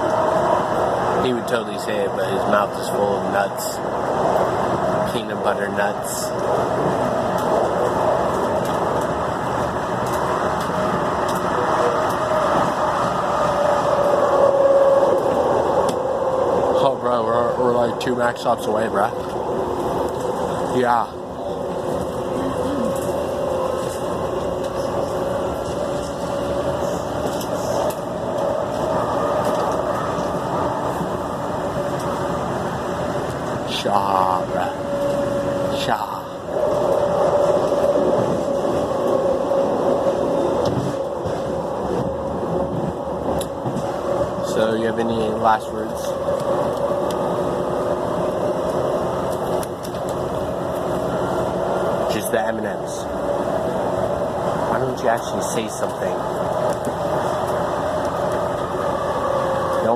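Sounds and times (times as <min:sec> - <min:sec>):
light-rail train rumble: 0:00.0 - 0:59.9.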